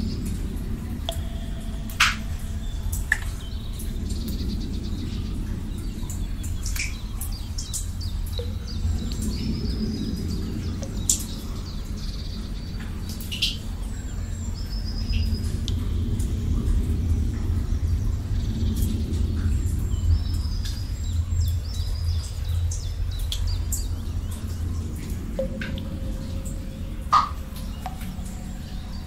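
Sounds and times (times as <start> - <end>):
birds chirping and trilling: 0.0 - 29.0
low outdoor rumble: 0.0 - 29.0.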